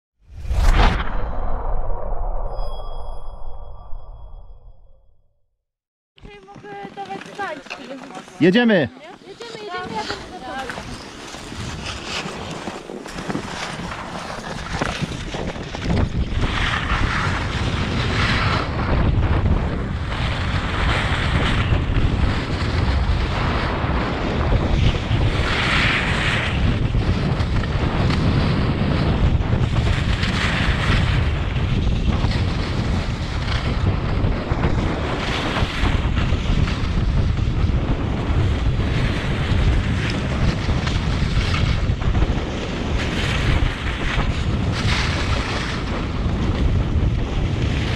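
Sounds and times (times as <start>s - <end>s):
skis carving across snow: 6.3s - 47.9s
wind buffeting microphone: 9.1s - 47.9s.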